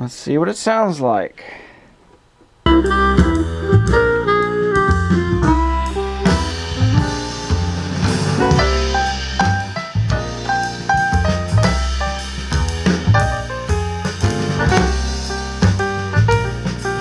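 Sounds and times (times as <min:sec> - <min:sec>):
instrumental music from speaker: 0:02.6 - 0:17.0.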